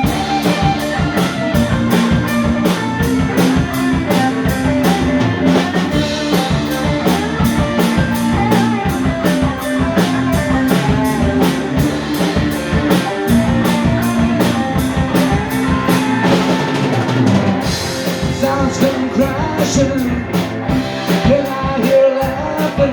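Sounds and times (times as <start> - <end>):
drums keeping steady beat: 0.0 - 22.9
rock band playing: 0.0 - 22.9.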